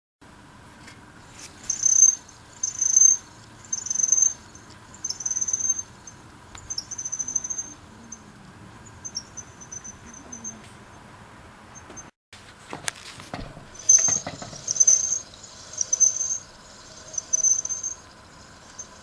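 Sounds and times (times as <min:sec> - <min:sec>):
hub dynamo squealing: 0:01.2 - 0:12.2, 0:13.3 - 0:19.0.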